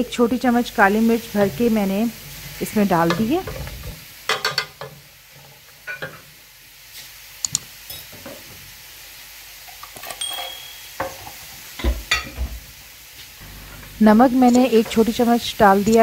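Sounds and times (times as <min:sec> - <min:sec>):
faint sizzle: 0:00.0 - 0:16.0.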